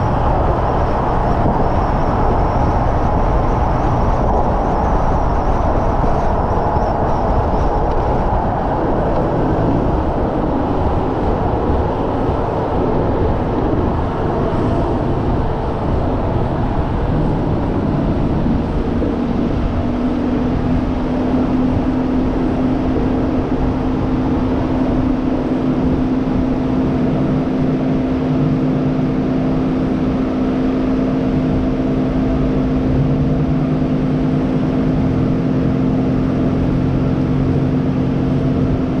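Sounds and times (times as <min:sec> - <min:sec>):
car engine running: 0:00.0 - 0:39.0
road and wind noise: 0:00.0 - 0:39.0.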